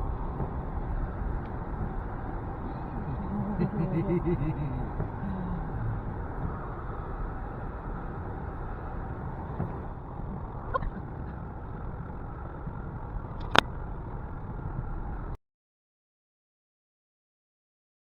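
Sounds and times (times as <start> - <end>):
vehicle driving rumble: 0.0 - 15.4.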